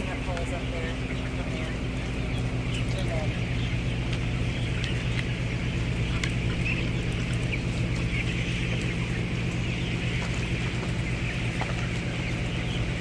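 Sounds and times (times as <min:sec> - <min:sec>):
chicks chirping and peeping: 0:00.0 - 0:13.0
ventilation fans humming: 0:00.0 - 0:13.0.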